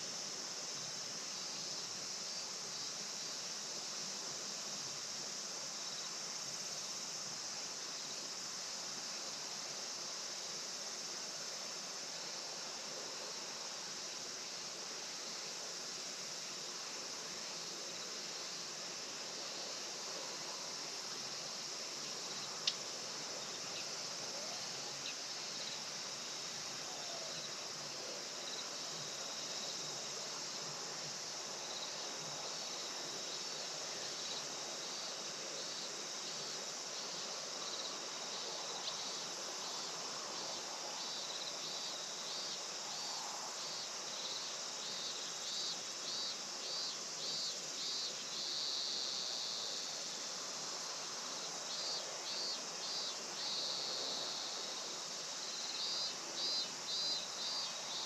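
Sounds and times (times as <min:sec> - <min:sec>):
insect chorus drone: 0:00.0 - 0:58.0
insect pulsed call: 0:00.0 - 0:58.0.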